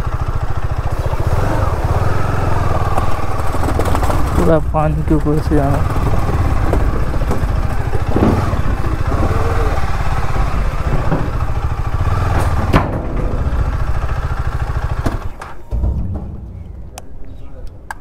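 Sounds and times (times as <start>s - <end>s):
motorcycle engine running at low speed: 0.0s - 17.8s
tyres knocking on wooden gangway: 2.7s - 18.0s.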